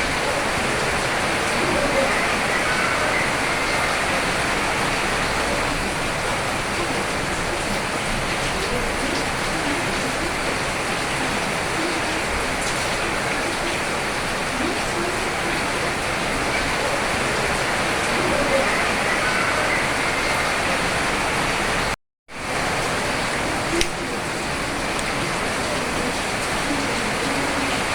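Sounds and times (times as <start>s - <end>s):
heavy rain: 0.0s - 27.9s.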